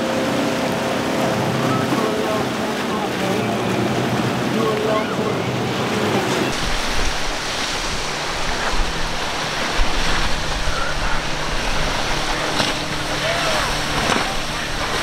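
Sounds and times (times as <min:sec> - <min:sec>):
boat engines humming: 0:00.0 - 0:15.0
surf and churning water: 0:00.0 - 0:15.0
wind rumbling on microphone: 0:01.3 - 0:15.0.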